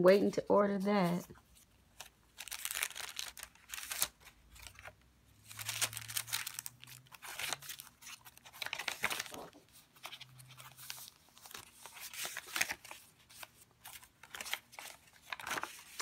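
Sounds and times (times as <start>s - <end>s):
paper pages rustling and crinkling: 1.0s - 16.0s.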